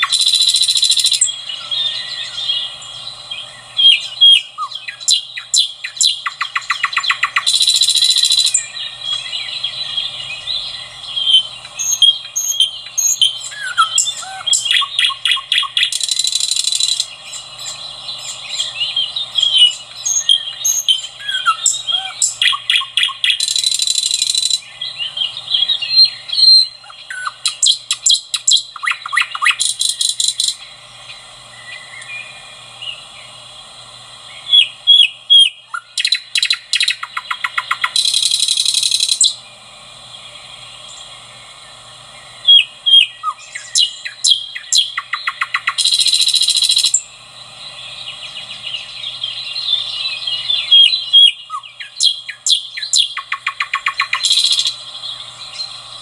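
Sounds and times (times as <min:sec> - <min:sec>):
nightingale singing: 0:00.0 - 0:33.4, 0:34.2 - 0:56.0.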